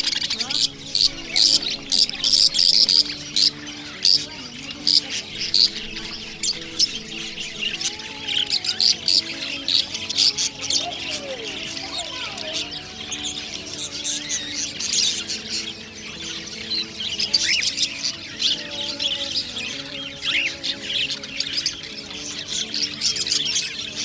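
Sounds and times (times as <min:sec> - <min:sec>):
parrots chirping and squawking: 0:00.0 - 0:24.0.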